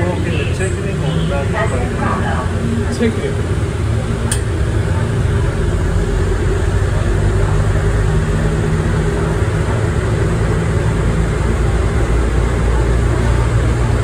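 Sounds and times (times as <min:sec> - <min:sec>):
train rumbling through tunnel: 0:00.0 - 0:14.0.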